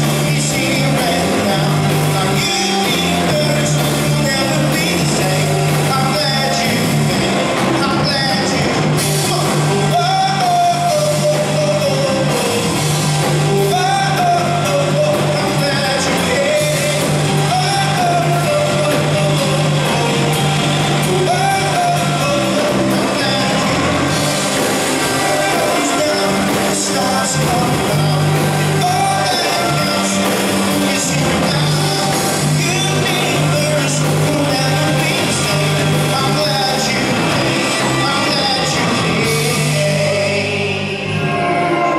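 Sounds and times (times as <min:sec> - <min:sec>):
bass guitar: 0:00.0 - 0:41.9
drums: 0:00.0 - 0:41.9
electric guitars: 0:00.0 - 0:41.9
male lead vocal: 0:00.0 - 0:41.9.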